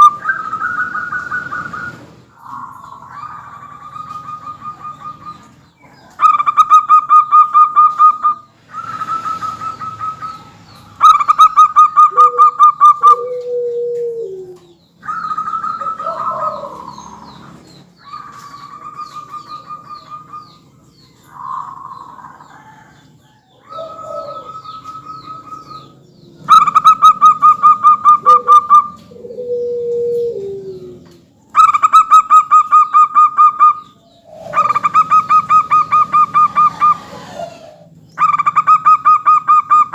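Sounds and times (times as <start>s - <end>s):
doves trilled cooing: 0.0s - 39.9s.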